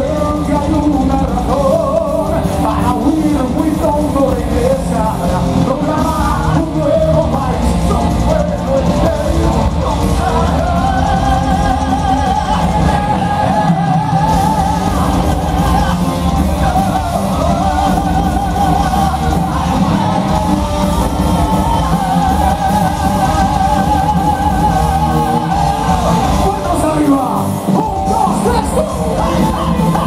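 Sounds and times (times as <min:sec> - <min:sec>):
heavy metal band playing live: 0:00.0 - 0:30.0
vocalists singing and yelling: 0:00.0 - 0:30.0.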